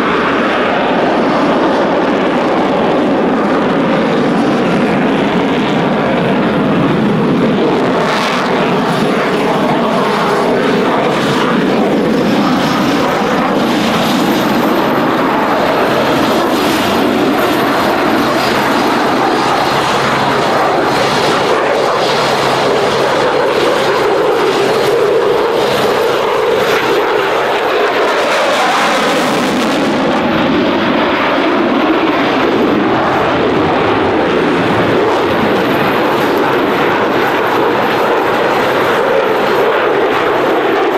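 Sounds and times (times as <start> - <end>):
jet roar flying overhead: 0.0 - 40.9.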